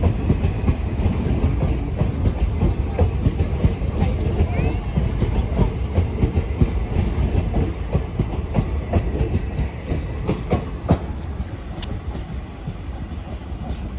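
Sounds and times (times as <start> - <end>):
train wheels clattering over rails: 0.0 - 13.9.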